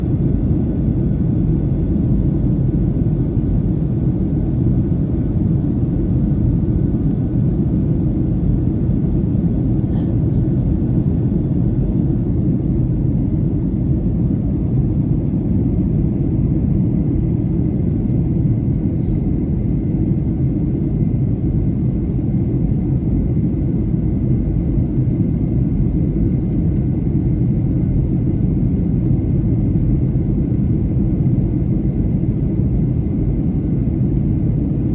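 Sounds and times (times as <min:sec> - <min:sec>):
airplane cabin rumble: 0:00.0 - 0:34.9.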